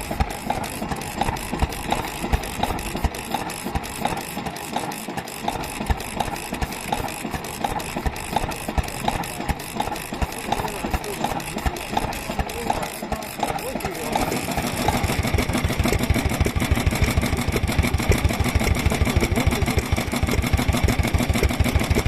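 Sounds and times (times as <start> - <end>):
stationary engines idling: 0.0 - 22.0.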